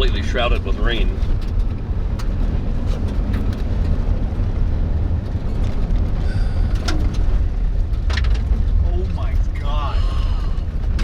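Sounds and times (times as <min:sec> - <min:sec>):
road and engine noise in car cabin: 0:00.0 - 0:11.0.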